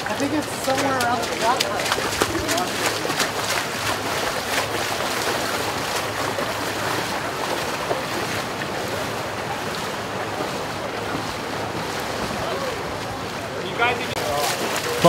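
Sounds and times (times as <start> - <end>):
flowing floodwater: 0.0 - 15.0
people wading splashes: 0.0 - 15.0
wind: 0.0 - 15.0.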